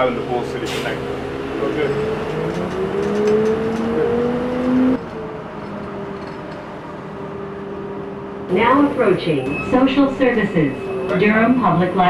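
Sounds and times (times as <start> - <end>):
bus whine rising in pitch: 1.2 - 12.0.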